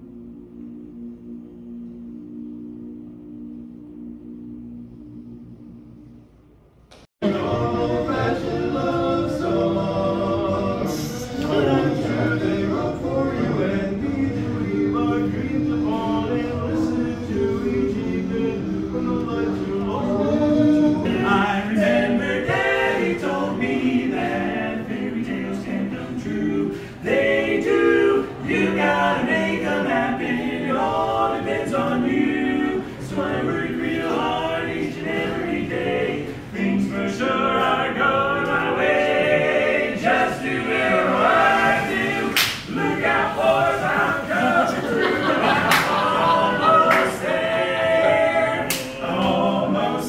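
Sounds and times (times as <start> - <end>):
men singing a cappella harmony: 7.2 - 50.0.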